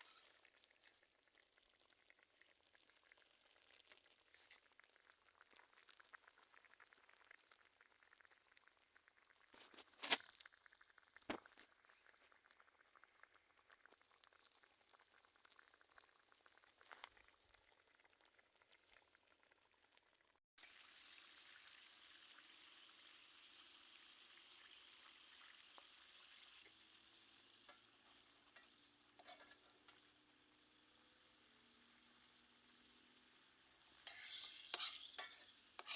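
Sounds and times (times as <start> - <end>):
food sizzling in a pan: 0.0 - 10.6, 11.3 - 19.6, 20.6 - 35.9.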